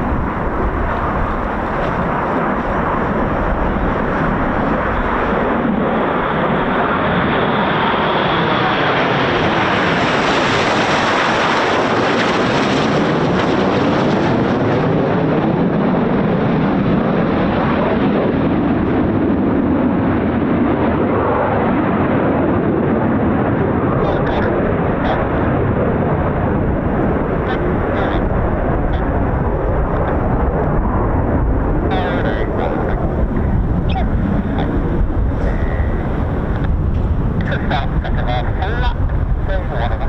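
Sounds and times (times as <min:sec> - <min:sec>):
jets flying past: 0:00.0 - 0:40.0.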